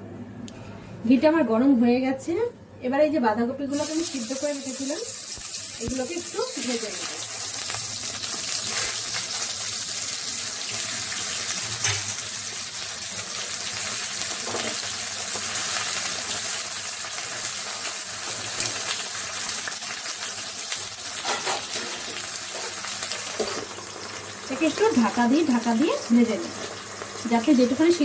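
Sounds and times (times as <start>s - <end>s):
cabbage sizzling in hot fat: 3.7s - 28.0s.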